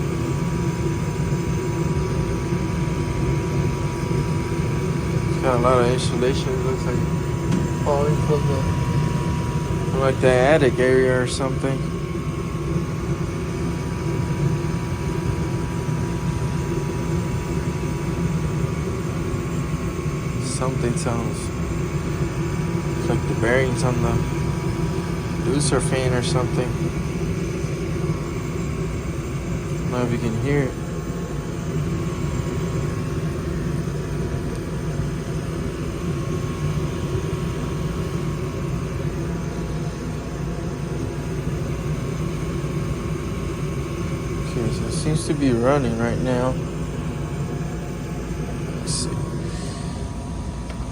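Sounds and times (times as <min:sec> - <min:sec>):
gas furnace fans humming: 0:00.0 - 0:50.9
steady whine: 0:00.0 - 0:50.9.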